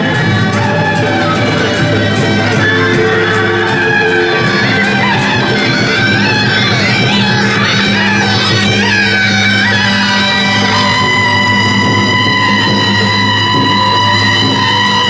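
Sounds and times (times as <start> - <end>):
bowed strings sliding notes: 0.0 - 15.0
plucked strings: 0.0 - 15.0.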